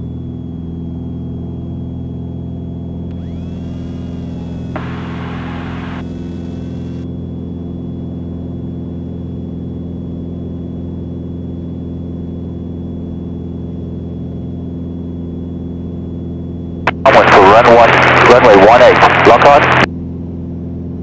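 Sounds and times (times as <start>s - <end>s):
propeller aircraft engine droning: 0.0s - 21.0s.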